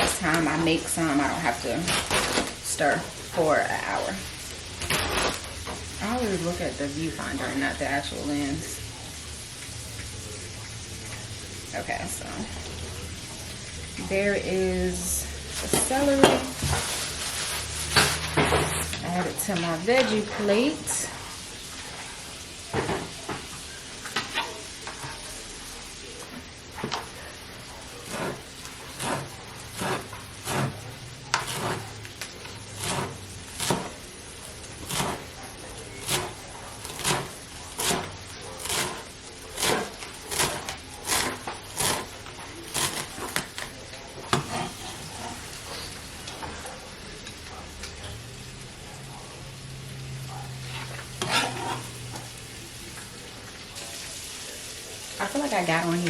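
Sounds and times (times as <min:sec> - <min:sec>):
sausage sizzling in a frying pan: 0:00.0 - 0:56.0
utensil stirring in a pan: 0:00.0 - 0:56.0.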